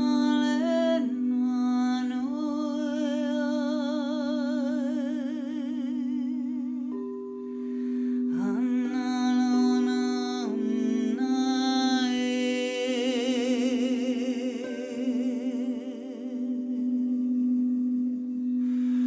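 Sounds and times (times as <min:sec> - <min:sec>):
crystal singing bowls ringing: 0:00.0 - 0:19.0
wordless voice singing: 0:00.0 - 0:19.0.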